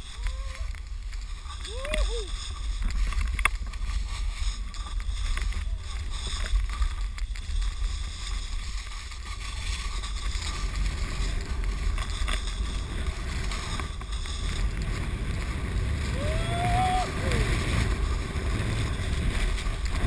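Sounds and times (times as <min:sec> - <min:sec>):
snowboard carving through snow: 0:00.0 - 0:20.0
wind rumbling on microphone: 0:00.0 - 0:20.0.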